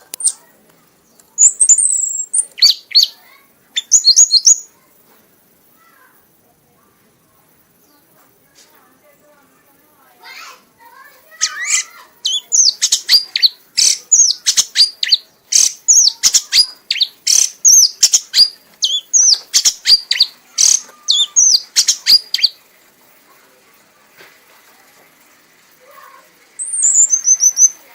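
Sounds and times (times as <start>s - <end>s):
songbird singing: 0.0s - 5.0s, 6.8s - 27.9s.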